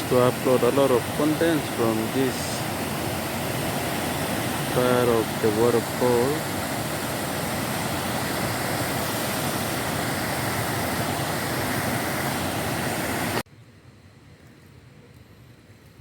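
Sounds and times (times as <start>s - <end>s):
waterfall roaring: 0.0s - 13.4s.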